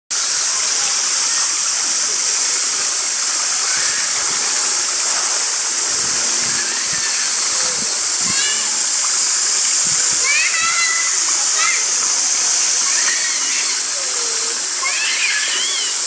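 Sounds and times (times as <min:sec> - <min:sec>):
steady high-pitched hiss: 0:00.1 - 0:16.0.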